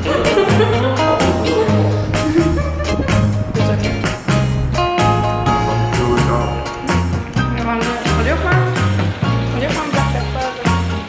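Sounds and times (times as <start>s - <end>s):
upbeat song with guitar and bass: 0.0s - 11.0s.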